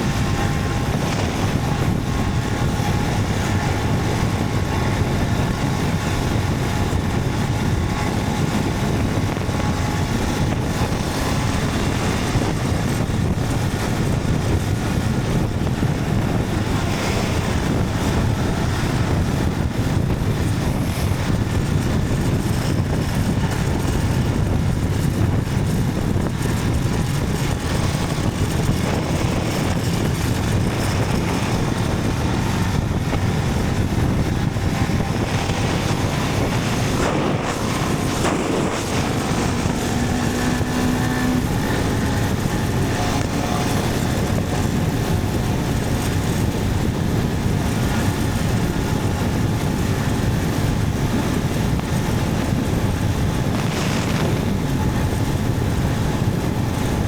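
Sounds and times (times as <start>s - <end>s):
motorcycle engine: 0.0s - 57.0s
road noise: 0.0s - 57.0s.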